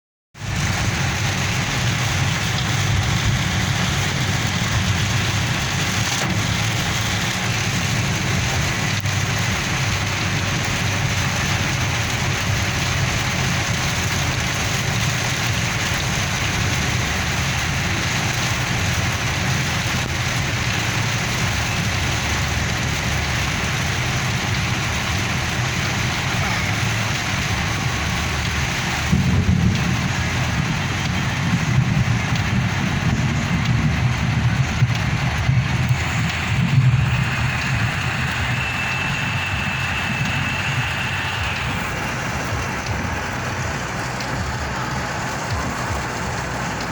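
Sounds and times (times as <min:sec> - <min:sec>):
steady rain falling: 0:00.4 - 0:46.9.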